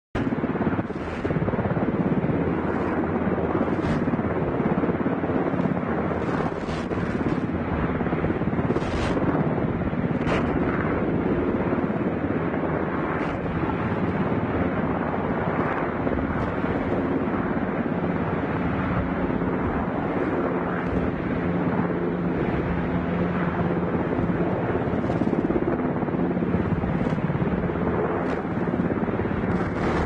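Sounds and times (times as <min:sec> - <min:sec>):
helicopter engine noise: 0:00.1 - 0:30.0
helicopter rotor chopping: 0:00.1 - 0:30.0.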